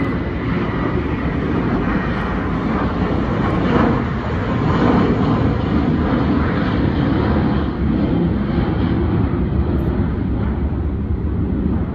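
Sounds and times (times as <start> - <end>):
jet airliner engines roaring: 0.0 - 11.9.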